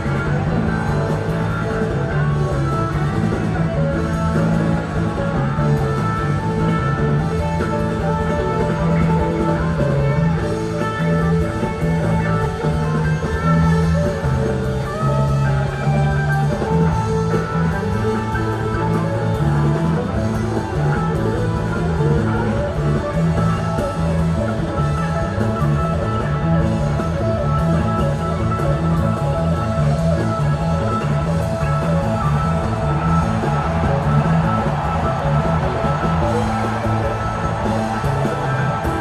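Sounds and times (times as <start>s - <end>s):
bass line: 0.0s - 39.0s
drums: 0.0s - 39.0s
electric guitar: 0.0s - 39.0s.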